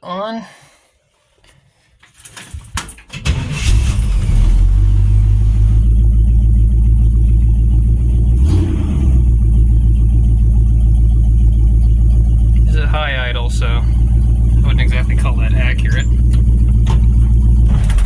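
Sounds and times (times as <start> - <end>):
car engine at high idle: 3.3 - 18.0.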